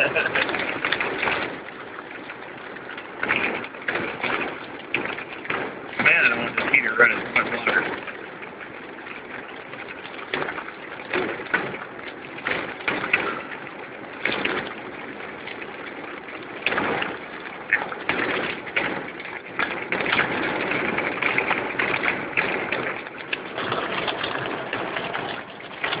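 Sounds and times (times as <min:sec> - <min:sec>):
rain and spray: 0:00.0 - 0:26.0
tyre and road noise on wet road: 0:00.0 - 0:26.0.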